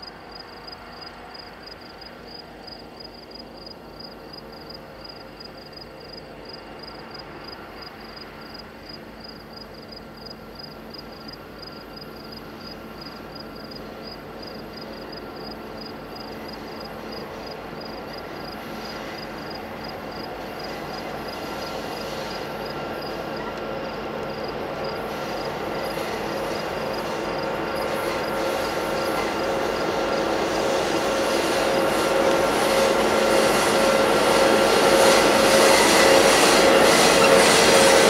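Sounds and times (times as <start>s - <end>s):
diesel locomotive engine rumble: 0.0s - 38.0s.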